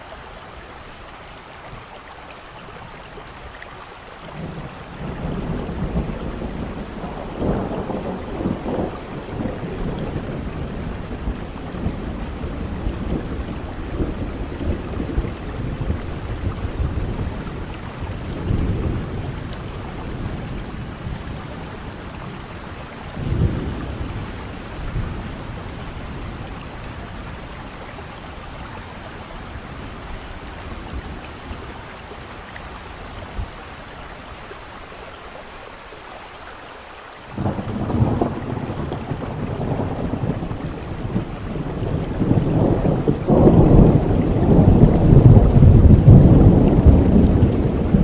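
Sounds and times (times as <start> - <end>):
steady rain: 0.0 - 48.0
rolling thunder: 4.3 - 33.6, 37.3 - 48.0.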